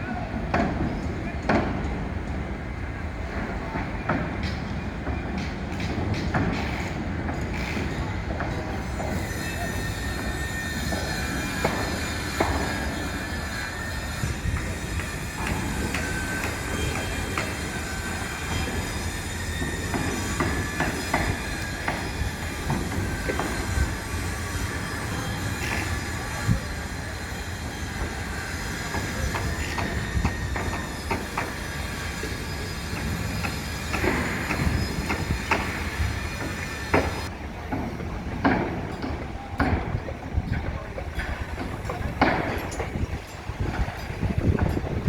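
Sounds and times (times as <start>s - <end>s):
train rumble: 0.0s - 45.0s
train wheels squealing on rails: 0.0s - 45.0s.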